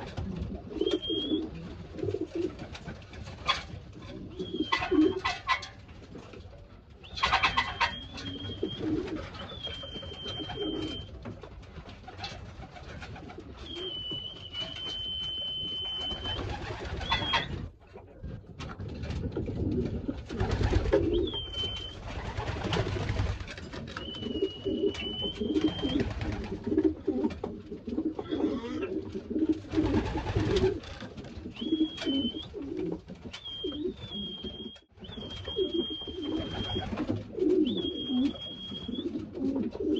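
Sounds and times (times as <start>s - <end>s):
pigeons cooing: 0.0s - 2.8s, 3.5s - 11.1s, 15.6s - 17.7s, 19.4s - 22.9s, 23.8s - 39.9s.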